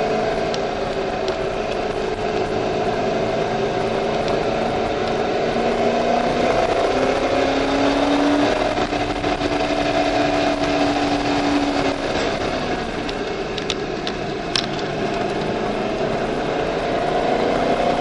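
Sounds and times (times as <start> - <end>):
car engine under load: 0.0 - 18.0
road and wind noise: 0.0 - 18.0.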